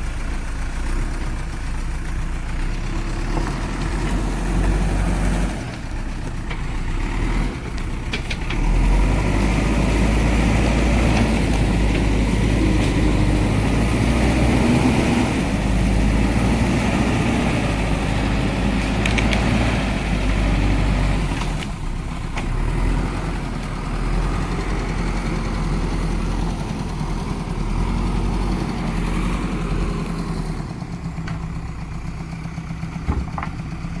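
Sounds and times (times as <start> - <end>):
backhoe diesel engine running: 0.0 - 34.0.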